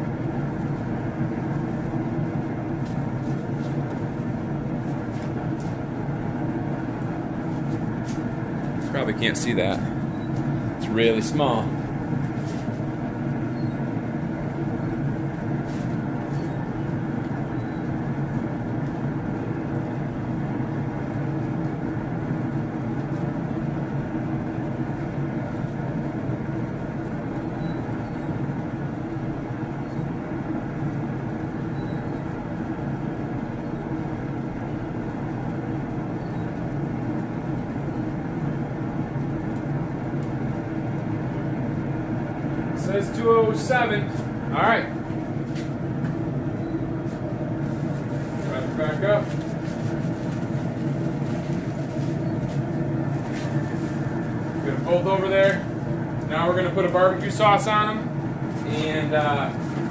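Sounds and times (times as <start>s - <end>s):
smoker fan humming and whirring: 0.0s - 59.9s.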